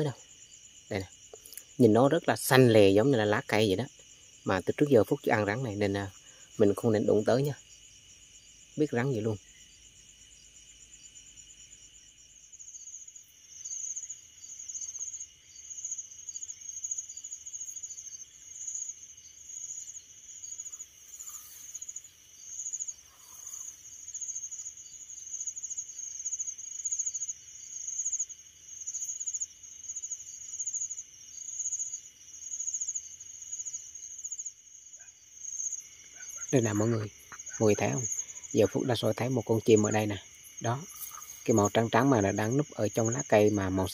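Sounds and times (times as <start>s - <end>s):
high insect trill: 0.0s - 43.9s
low insect whine: 0.0s - 43.9s.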